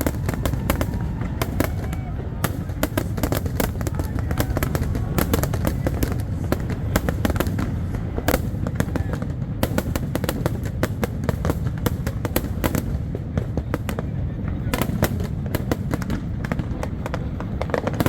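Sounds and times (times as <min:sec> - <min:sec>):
continuous low rumble: 0:00.0 - 0:18.0
fireworks cracking and banging: 0:00.0 - 0:18.0.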